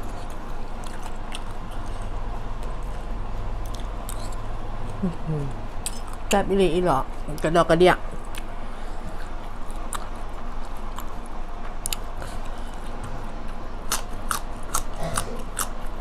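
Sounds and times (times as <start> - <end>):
close chewing: 0.0 - 6.4, 8.2 - 16.0.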